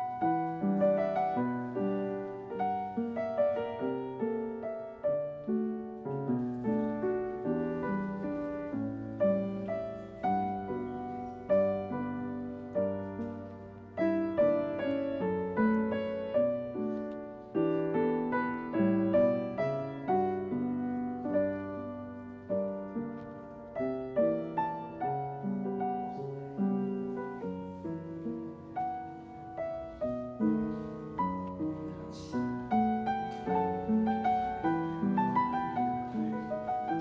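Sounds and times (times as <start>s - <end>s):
solo piano piece: 0.0s - 37.0s.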